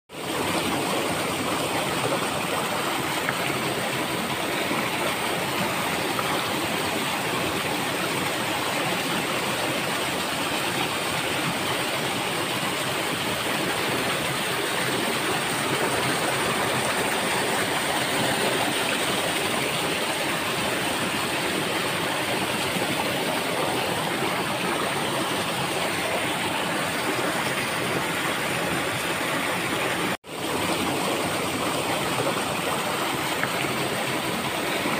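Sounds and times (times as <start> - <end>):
stream rushing over boulders: 0.1 - 34.9.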